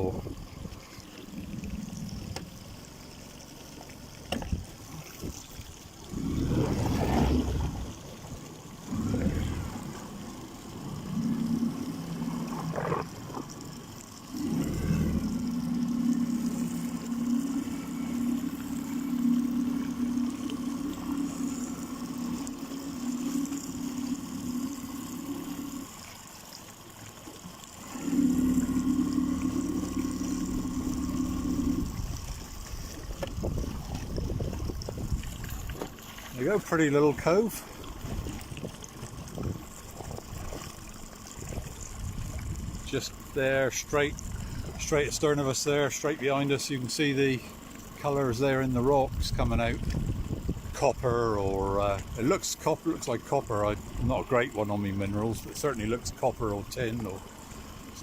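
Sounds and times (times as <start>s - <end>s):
motorboat engine droning: 0.0s - 58.0s
water sloshing around hull: 0.0s - 58.0s.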